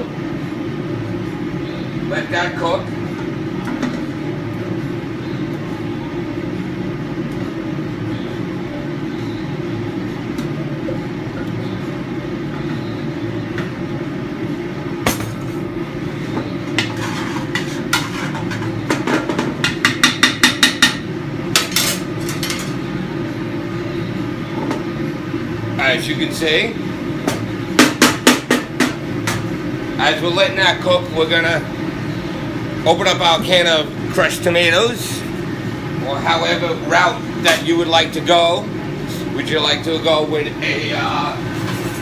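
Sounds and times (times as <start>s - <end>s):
kitchen exhaust hood rushing: 0.0s - 42.0s.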